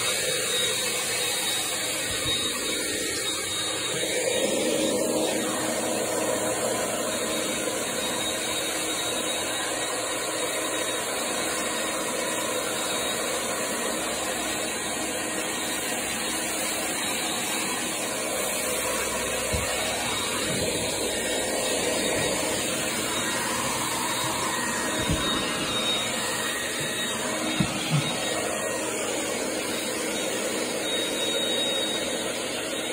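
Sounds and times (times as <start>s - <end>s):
wet dry vacuum running: 0.0s - 32.9s.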